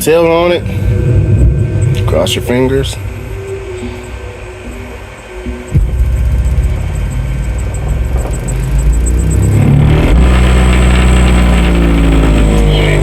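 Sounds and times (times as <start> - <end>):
subwoofer playing deep bass: 0.0 - 13.0.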